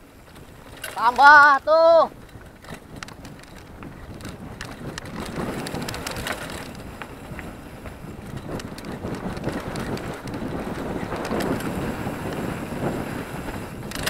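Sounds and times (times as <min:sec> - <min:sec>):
bike rattling clicks and knocks: 0:00.0 - 0:14.0
bike tyres rolling over dirt: 0:00.0 - 0:14.0
wind on microphone: 0:00.0 - 0:14.0.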